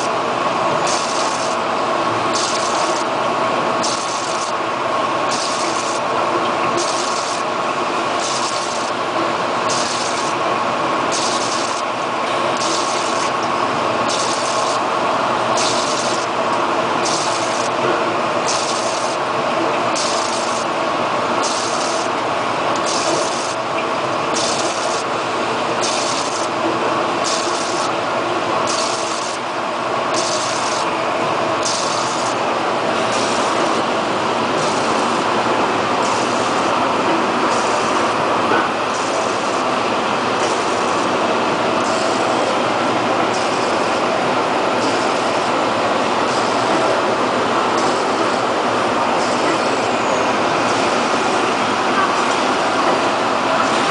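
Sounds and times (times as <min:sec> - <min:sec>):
machine humming: 0:00.0 - 0:53.9.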